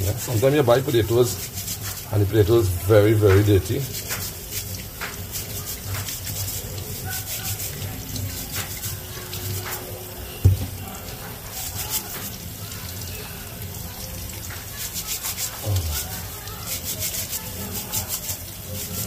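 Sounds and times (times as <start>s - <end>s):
potatoes being rubbed: 0.0s - 19.0s
tap water running into sink: 0.0s - 19.0s.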